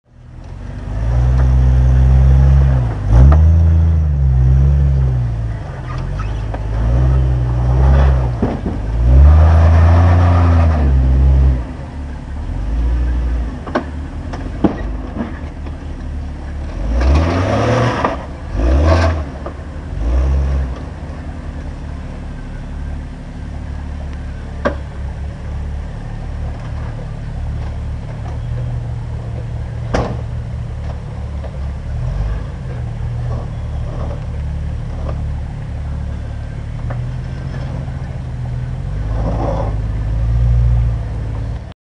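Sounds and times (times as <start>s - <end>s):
engine revving: 0.4s - 15.6s, 16.4s - 22.7s, 29.6s - 41.7s.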